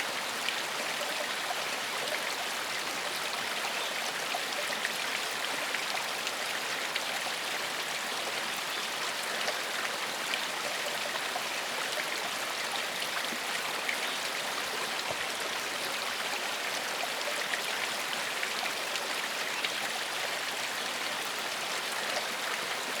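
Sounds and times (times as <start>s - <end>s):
stream flowing over rocks: 0.0s - 23.0s.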